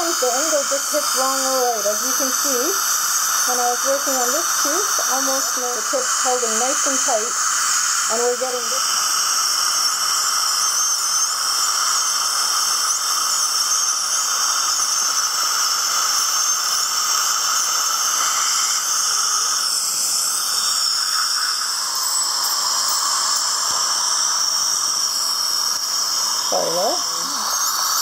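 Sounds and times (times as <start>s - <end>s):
dental suction hiss: 0.0s - 28.0s
high-pitched scaler whine: 0.0s - 28.0s.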